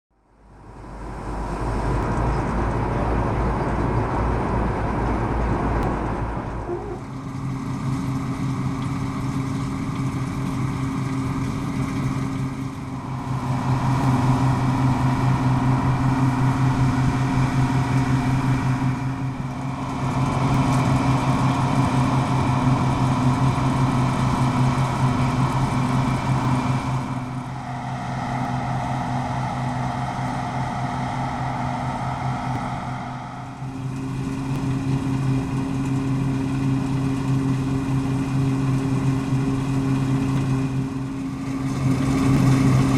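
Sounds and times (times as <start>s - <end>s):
combine harvester running: 0.3s - 42.9s.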